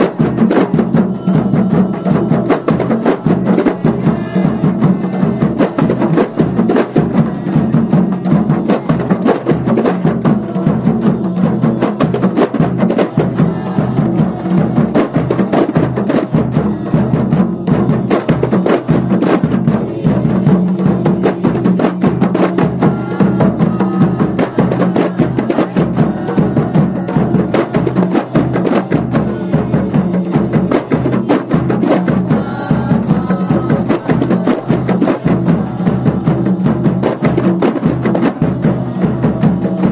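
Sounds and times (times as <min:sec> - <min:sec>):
bass drum: 0:00.0 - 0:39.9
hand frame drums beating: 0:00.0 - 0:39.9
person chanting: 0:00.0 - 0:39.9.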